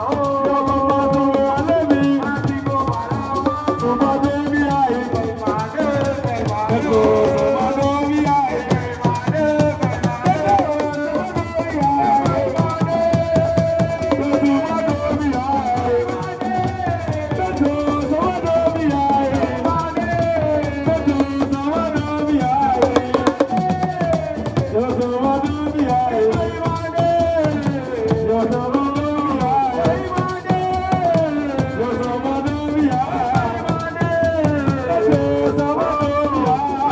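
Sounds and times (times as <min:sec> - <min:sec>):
fast dense drumming: 0:00.0 - 0:36.9
person singing: 0:00.0 - 0:36.9.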